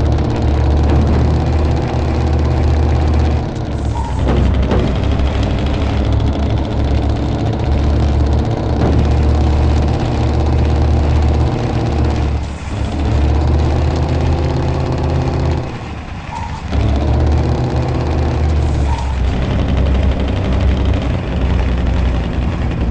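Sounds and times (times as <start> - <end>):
truck engine revving under load: 0.0 - 22.9.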